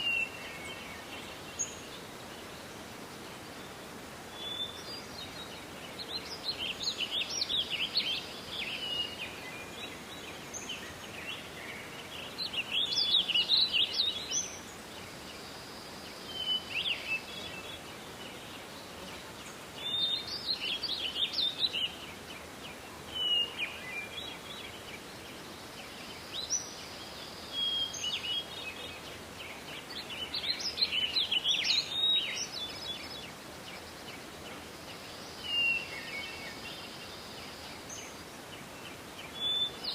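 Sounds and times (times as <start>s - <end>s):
forest background hiss: 0.0s - 39.9s
songbirds chirping and trilling: 0.0s - 39.9s.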